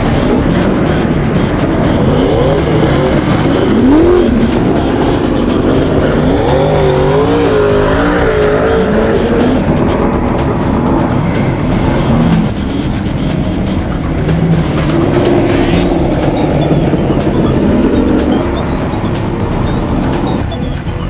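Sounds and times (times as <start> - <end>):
background music: 0.0 - 21.0
race car engines revving: 0.0 - 21.0.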